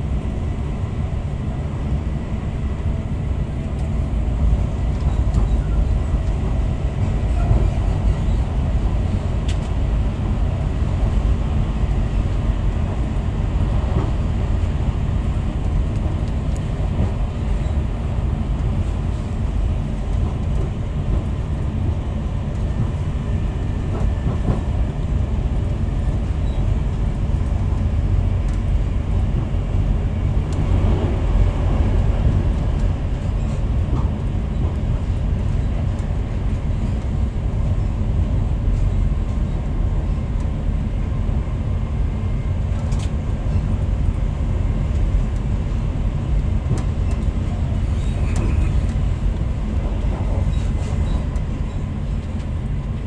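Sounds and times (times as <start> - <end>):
wheels rumbling on track: 0.0 - 53.0.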